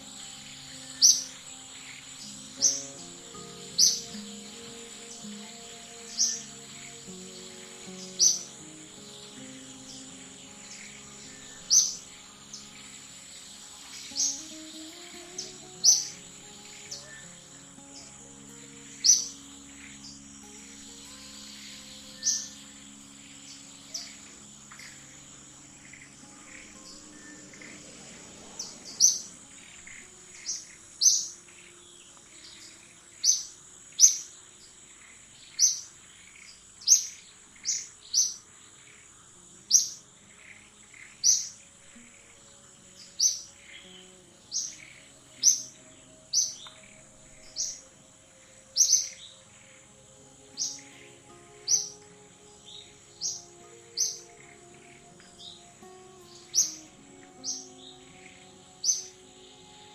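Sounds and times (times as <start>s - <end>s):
bird chirping: 0.0s - 59.9s
high insect drone: 0.0s - 59.9s.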